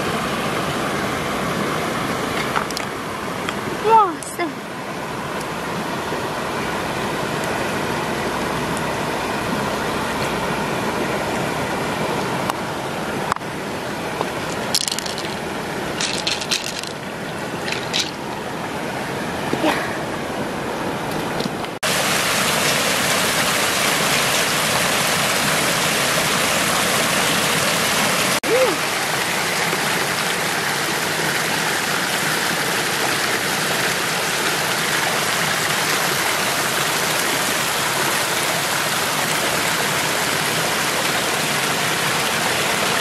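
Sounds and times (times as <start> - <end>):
water rushing over rocks: 0.0 - 43.0.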